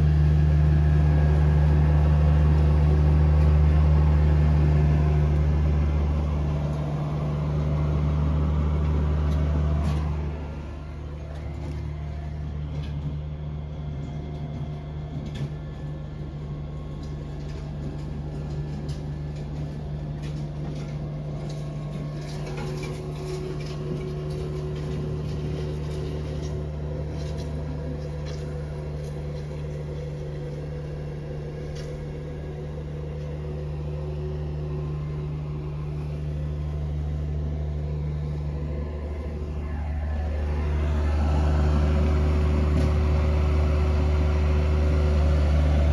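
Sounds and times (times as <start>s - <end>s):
machine humming: 0.0s - 14.1s, 15.6s - 45.9s.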